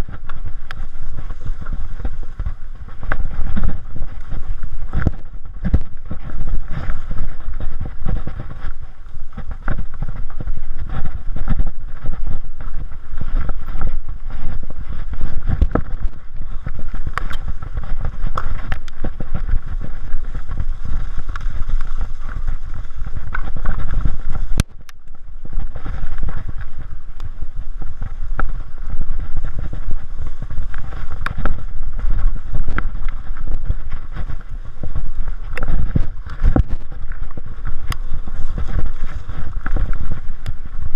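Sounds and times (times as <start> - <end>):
bike rattling and knocking: 0.0 - 40.9
wind and tyres rumbling on dirt: 0.0 - 40.9.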